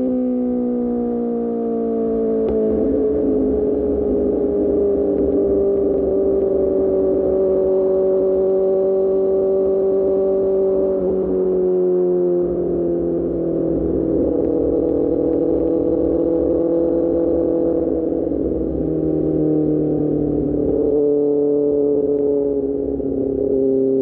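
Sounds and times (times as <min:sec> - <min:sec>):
motorcycle engine running: 0:02.0 - 0:11.6, 0:12.4 - 0:24.0.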